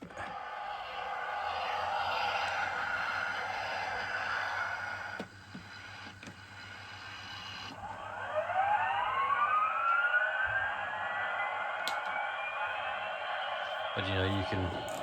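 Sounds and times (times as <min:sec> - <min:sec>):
rising siren-like whine: 0:00.0 - 0:15.0.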